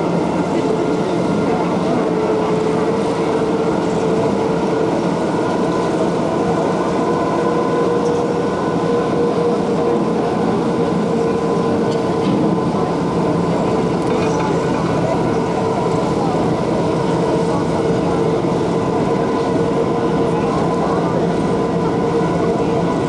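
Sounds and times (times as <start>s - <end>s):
loud steady drone: 0.0s - 23.0s.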